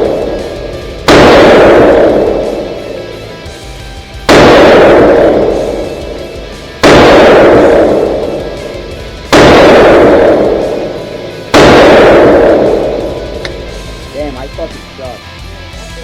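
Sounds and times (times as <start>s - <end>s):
loud gunshots ringing out: 0.0s - 14.8s.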